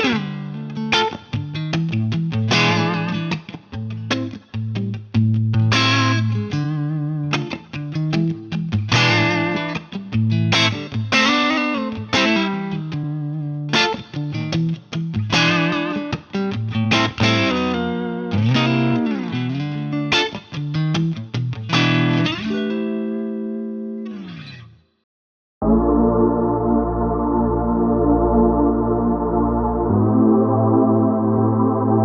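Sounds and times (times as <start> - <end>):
clean electric guitar riff: 0.0 - 24.7, 25.6 - 32.0.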